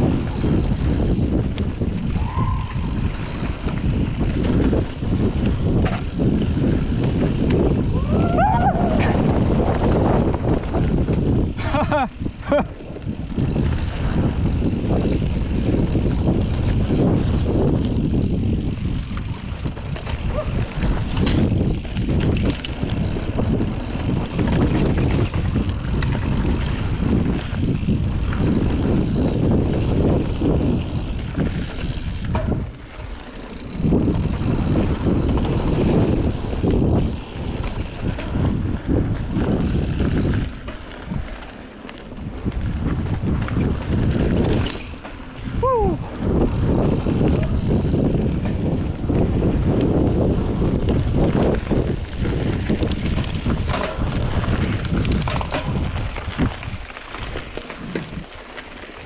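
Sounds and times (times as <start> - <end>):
tyres rolling over dirt trail: 0.0 - 59.0
wind buffeting microphone: 0.0 - 59.0.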